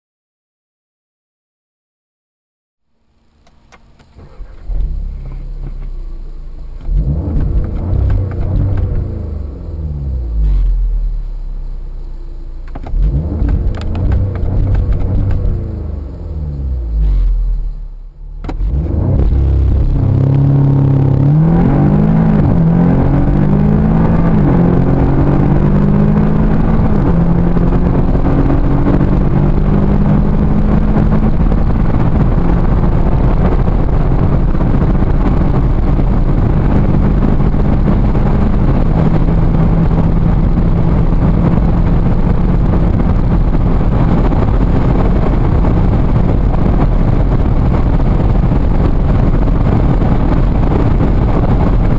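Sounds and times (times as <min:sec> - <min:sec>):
car engine at full throttle: 0:03.0 - 0:51.9
wind and road noise: 0:03.0 - 0:51.9.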